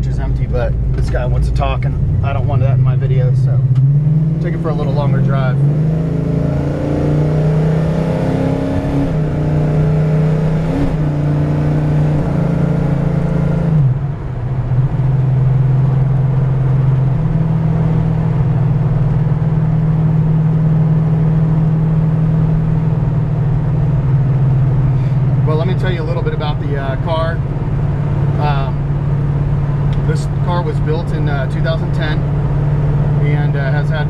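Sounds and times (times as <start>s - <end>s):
deep car engine note: 0.0s - 34.0s.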